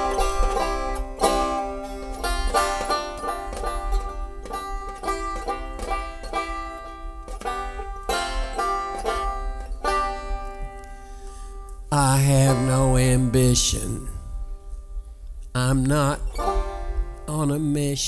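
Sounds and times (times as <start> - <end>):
banjo picking: 0.0 - 18.0.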